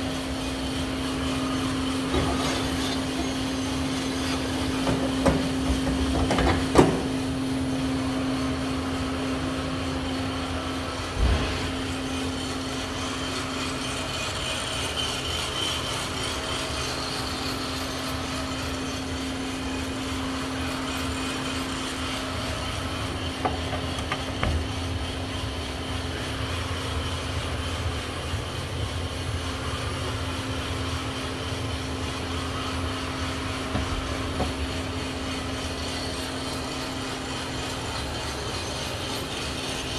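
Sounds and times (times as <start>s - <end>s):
coffee roaster motor hum: 0.0s - 39.9s.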